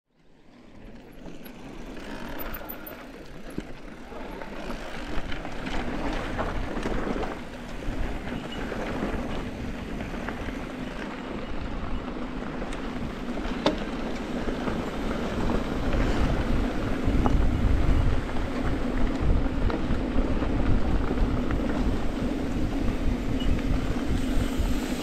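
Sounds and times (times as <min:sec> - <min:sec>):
bike clicks and rattles: 0:00.2 - 0:25.0
bike tyre noise on gravel: 0:00.2 - 0:25.0
wind rumble on microphone: 0:03.5 - 0:25.0.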